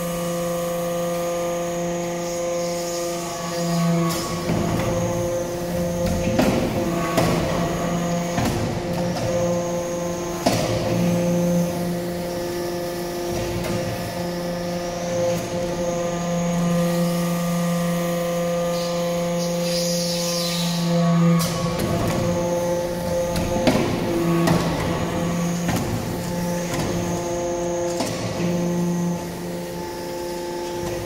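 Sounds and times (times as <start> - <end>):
hydraulic unit hum-whine: 0.0 - 31.0.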